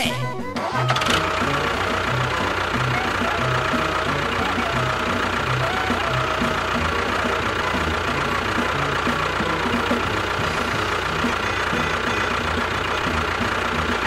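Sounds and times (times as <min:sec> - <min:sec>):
tractor engine idling with knocking: 0:00.6 - 0:14.0.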